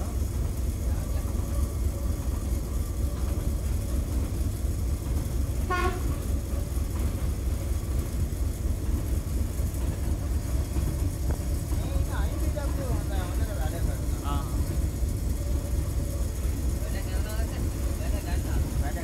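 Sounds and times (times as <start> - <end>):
diesel locomotive engine rumble: 0.0 - 19.0
wheel and track noise: 0.0 - 19.0.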